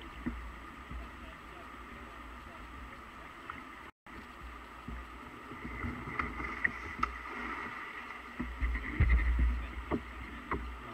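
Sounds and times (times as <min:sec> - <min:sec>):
water lapping against kayak: 0:00.0 - 0:10.9.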